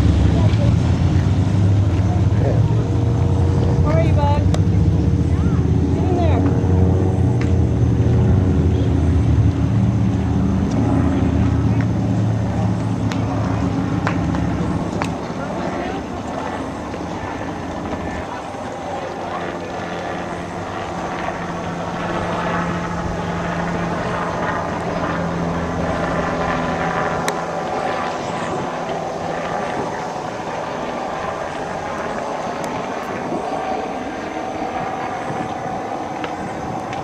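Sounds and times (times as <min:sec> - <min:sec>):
engine drone: 0:00.0 - 0:37.0
low hum: 0:00.0 - 0:37.0.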